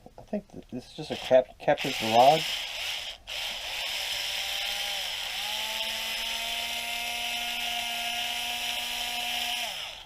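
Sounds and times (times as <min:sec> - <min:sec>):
electric power tool whining: 0:01.1 - 0:10.0.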